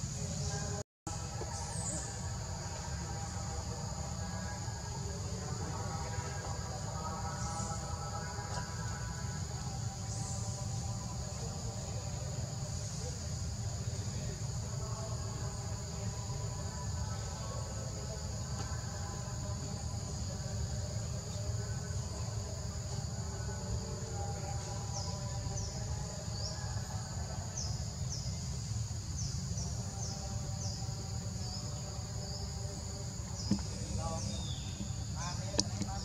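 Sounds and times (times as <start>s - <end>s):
forest insects droning: 0.0s - 36.0s.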